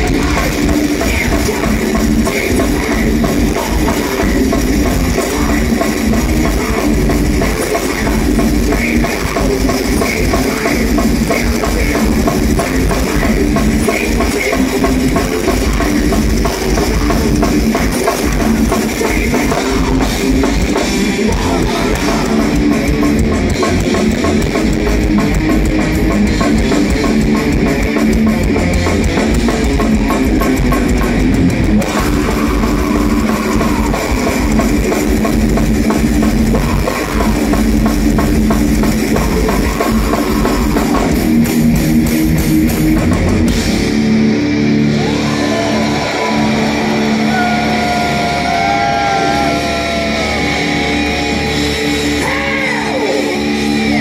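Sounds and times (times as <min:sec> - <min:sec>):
lead guitar with pitch bends: 0:00.0 - 0:54.0
thrash metal band playing: 0:00.0 - 0:54.0.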